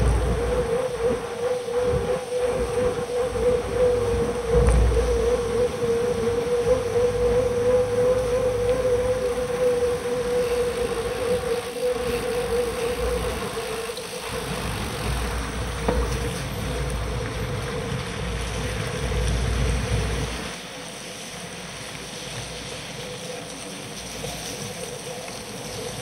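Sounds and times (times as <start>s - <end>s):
steady hum: 0.0s - 26.0s
tyre noise on wet road: 0.0s - 26.0s
wind buffeting microphone: 0.0s - 26.0s.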